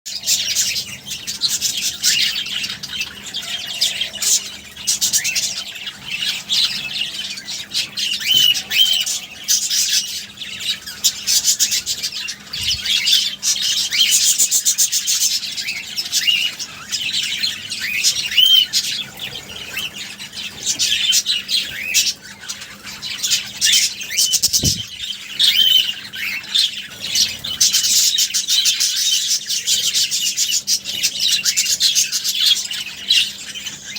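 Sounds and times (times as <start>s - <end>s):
budgies chattering: 0.1s - 33.9s.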